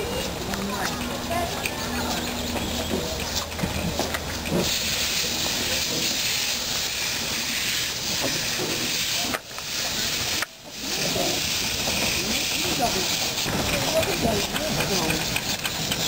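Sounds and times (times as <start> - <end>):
loud hiss of steam venting: 0.0 - 16.0
steam locomotive moving slowly: 0.0 - 16.0.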